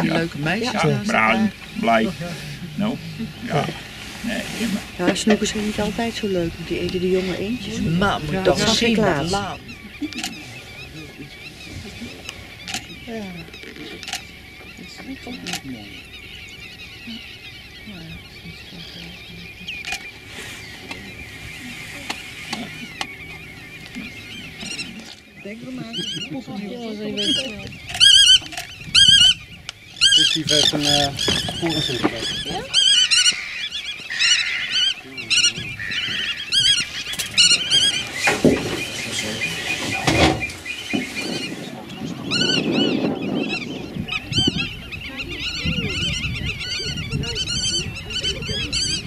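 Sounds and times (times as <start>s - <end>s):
birds twittering: 0.0s - 49.0s
short low bird calls: 6.1s - 49.0s.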